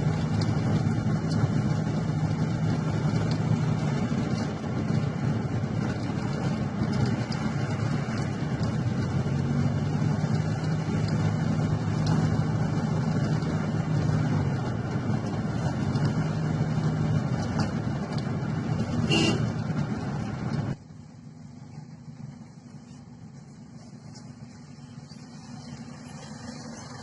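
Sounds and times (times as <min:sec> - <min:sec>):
car engine drone: 0:00.0 - 0:27.0
road noise: 0:00.0 - 0:27.0.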